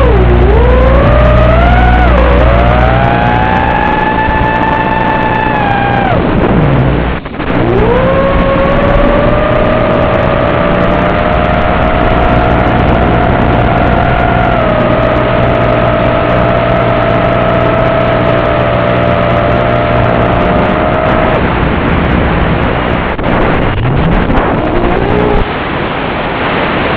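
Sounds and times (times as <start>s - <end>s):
drone motors whining: 0.0s - 21.8s, 22.5s - 25.5s
wind rushing: 1.0s - 26.9s.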